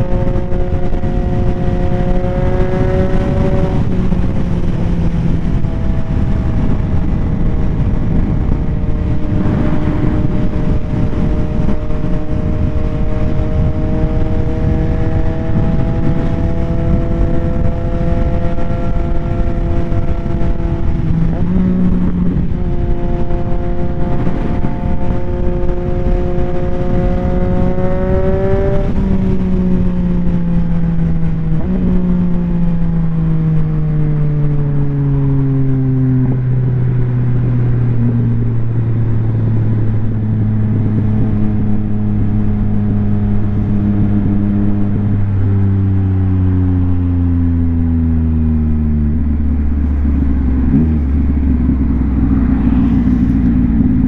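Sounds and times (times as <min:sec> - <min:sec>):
motorcycle engine revving: 0:00.0 - 0:54.0
wind on microphone: 0:00.0 - 0:54.0.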